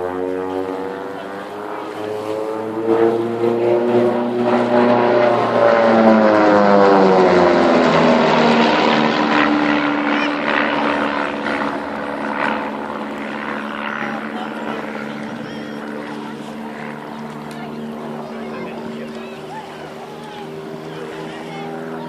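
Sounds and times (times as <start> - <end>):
propeller aircraft flying past: 0.0 - 22.0.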